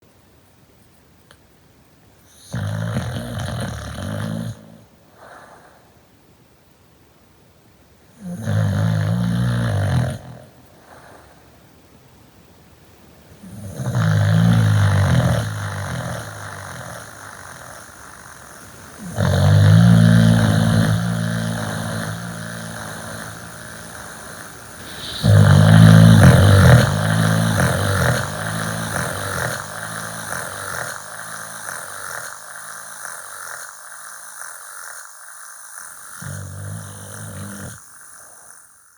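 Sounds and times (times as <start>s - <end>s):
loud snoring: 2.3s - 5.8s, 8.2s - 11.3s, 13.4s - 38.9s.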